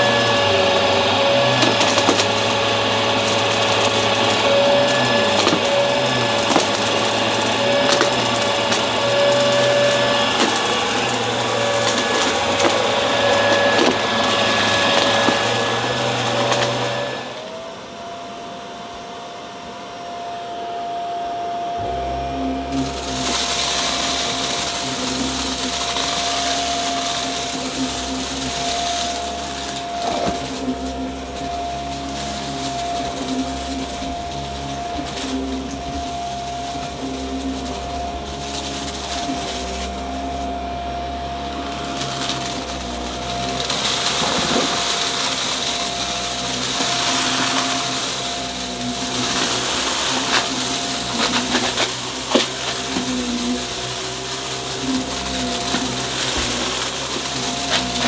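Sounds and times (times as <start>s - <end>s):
brushroll crunching debris: 0.0s - 17.5s, 21.8s - 58.0s
vacuum cleaner motor whine: 0.0s - 58.0s.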